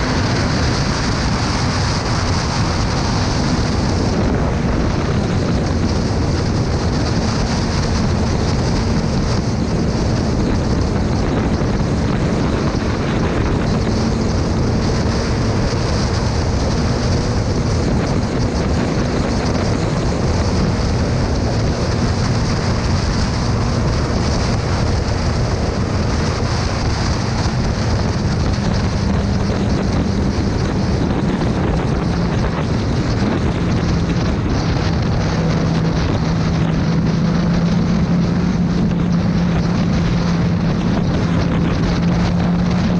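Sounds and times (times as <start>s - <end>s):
motorcycle engine drone: 0.0s - 42.9s
wind rushing over microphone: 0.0s - 42.9s.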